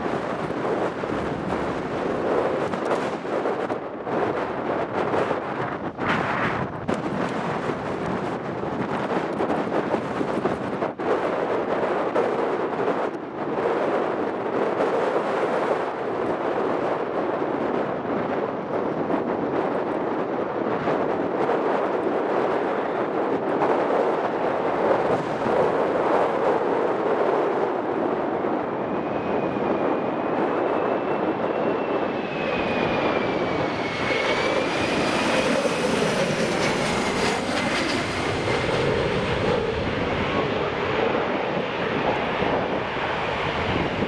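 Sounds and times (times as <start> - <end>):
jet airliner passing overhead: 0.0 - 44.0.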